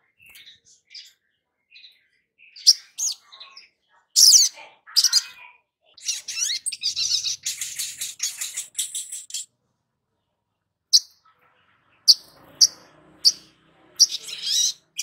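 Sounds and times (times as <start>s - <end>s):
bird chirping and twittering: 0.0s - 9.5s, 10.9s - 15.0s.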